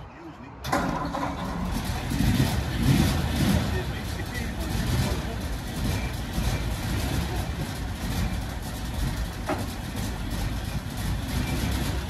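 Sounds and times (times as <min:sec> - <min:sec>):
pickup engine idling: 0:01.0 - 0:12.0.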